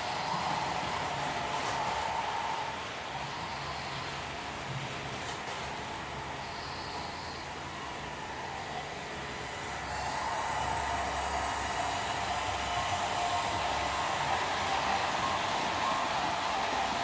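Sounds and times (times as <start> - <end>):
model trains whirring: 0.0 - 17.0.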